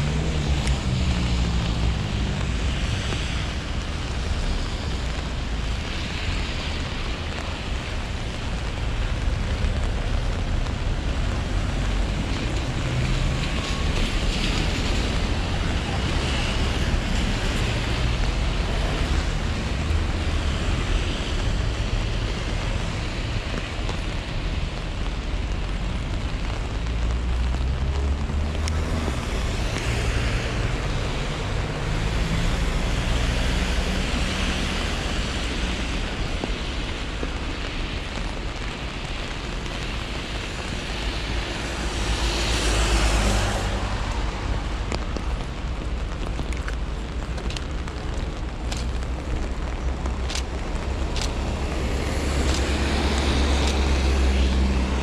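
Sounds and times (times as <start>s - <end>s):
cars swishing past on wet road: 0.0s - 55.0s
low traffic rumble: 0.0s - 55.0s.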